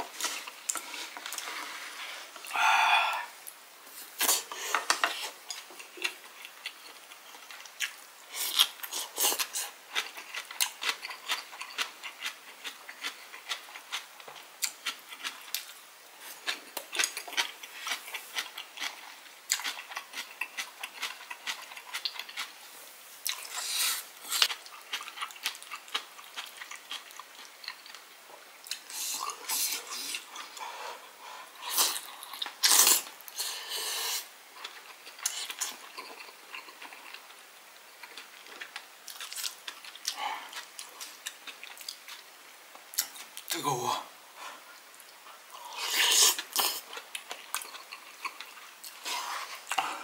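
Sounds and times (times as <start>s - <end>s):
man chewing food: 0.0s - 43.5s, 44.3s - 50.0s.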